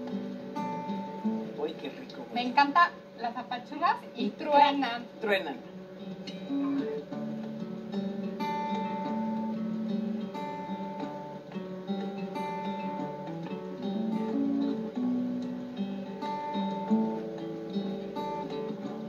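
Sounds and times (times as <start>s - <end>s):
acoustic guitar through tv speaker: 0.0s - 19.0s.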